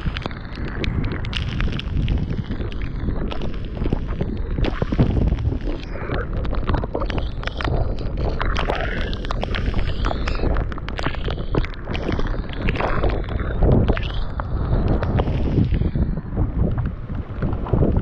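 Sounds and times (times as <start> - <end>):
rain ticking on microphone: 0.0 - 18.0
wind buffeting microphone: 0.0 - 18.0.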